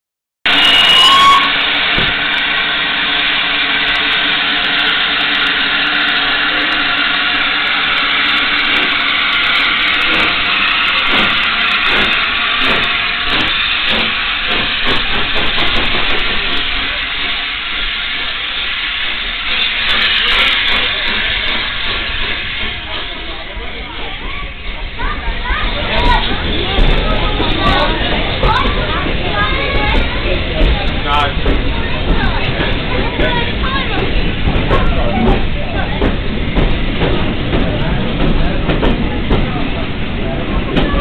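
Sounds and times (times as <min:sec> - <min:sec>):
steam hissing: 0:00.5 - 0:41.0
steam locomotive exhaust chuffs: 0:00.5 - 0:41.0.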